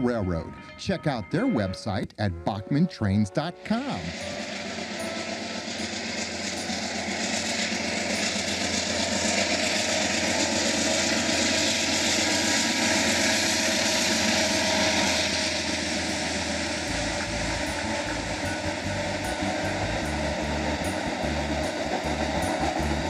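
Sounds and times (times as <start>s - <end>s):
diesel locomotive engine running: 0.0s - 23.0s
train wheels on rails: 3.6s - 23.0s.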